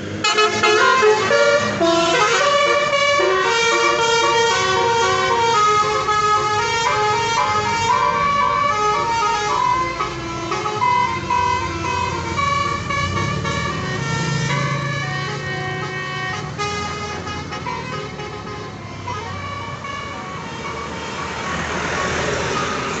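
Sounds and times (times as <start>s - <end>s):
bus engine humming: 0.0s - 23.0s
multi-tone air horn melody: 0.2s - 21.7s.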